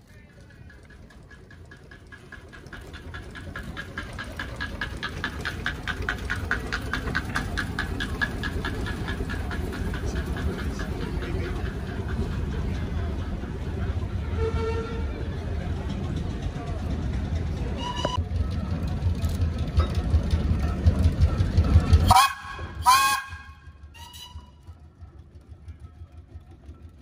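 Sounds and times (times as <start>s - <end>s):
steam engine beat: 0.1s - 27.0s.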